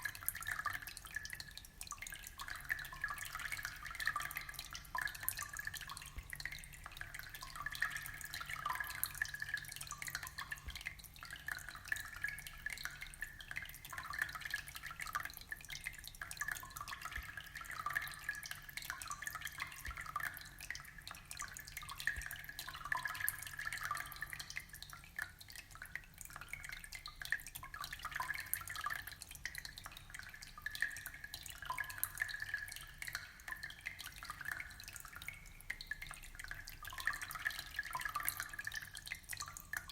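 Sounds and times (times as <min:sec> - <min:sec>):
aquarium water trickling: 0:00.0 - 0:39.9.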